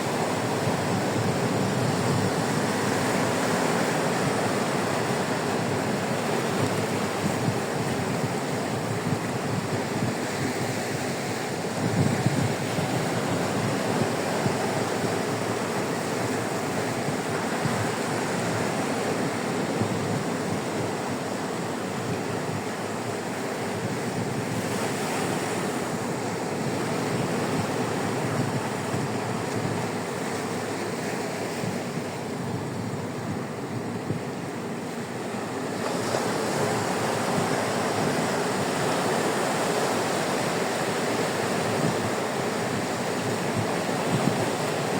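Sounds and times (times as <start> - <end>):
waves breaking on beach: 0.0 - 44.9
wind buffeting microphone: 0.0 - 44.9.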